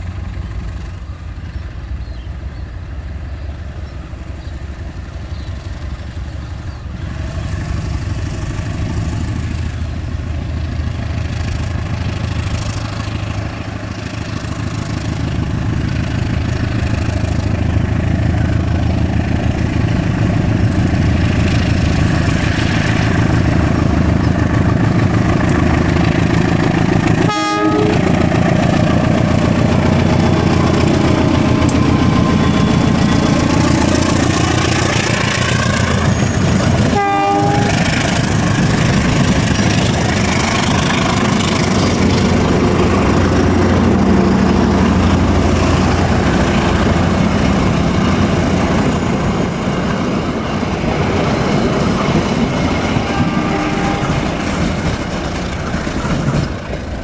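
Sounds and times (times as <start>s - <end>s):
locomotive engine running hard: 0.0s - 57.0s.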